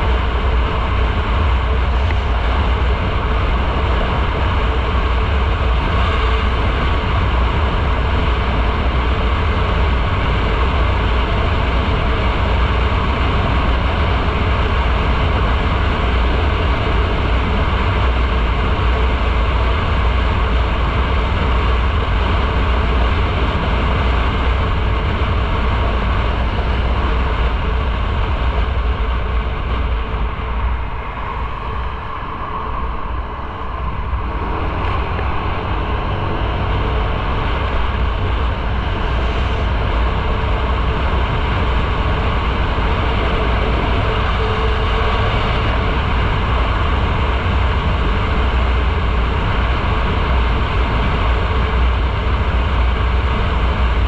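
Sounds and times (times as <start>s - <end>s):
motorcycle engine: 0.0s - 53.1s
road noise: 0.0s - 54.0s
wind rushing over microphone: 0.0s - 54.0s.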